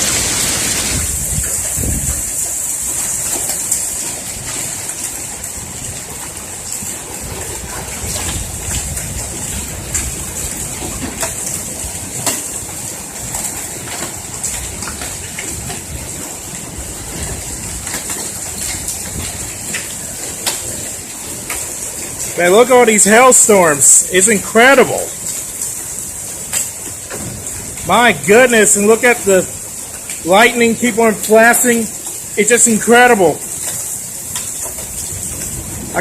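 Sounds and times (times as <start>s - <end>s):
heavy rain hissing: 0.0s - 36.0s.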